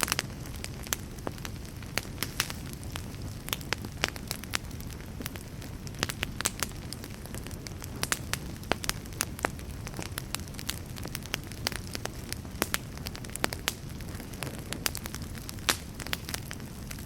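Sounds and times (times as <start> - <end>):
low fire hiss: 0.0 - 17.0
wood fire crackling and popping: 0.0 - 17.0.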